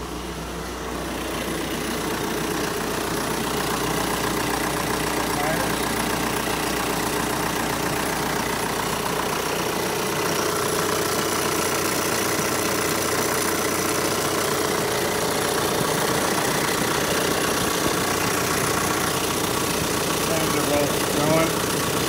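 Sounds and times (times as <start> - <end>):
diesel car engine idling: 0.0 - 22.0.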